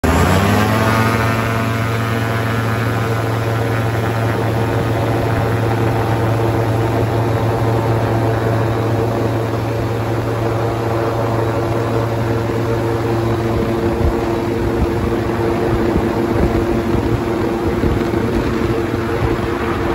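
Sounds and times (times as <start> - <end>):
propeller engine at takeoff power: 0.0 - 19.9.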